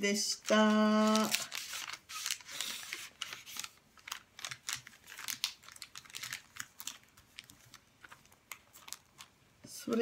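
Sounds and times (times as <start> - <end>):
paper and plastic rustling: 0.4 - 10.0.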